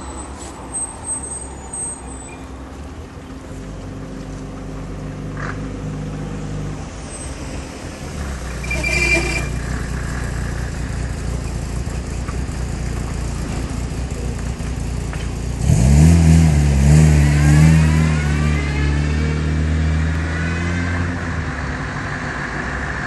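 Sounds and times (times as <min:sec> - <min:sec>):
diesel truck engine revving: 0:03.0 - 0:23.0.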